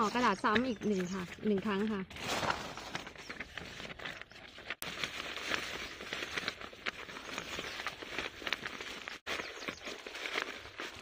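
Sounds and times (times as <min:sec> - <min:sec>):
newspaper crinkling and rustling: 0:00.0 - 0:11.0.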